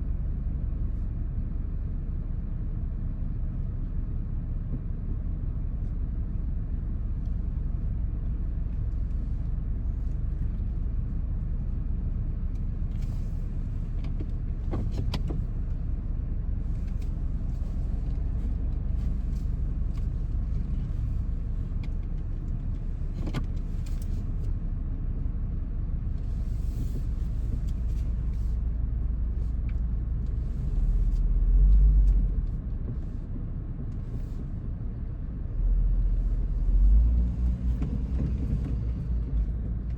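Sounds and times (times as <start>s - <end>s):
vehicle engine and tyres rumbling: 0.0s - 39.9s.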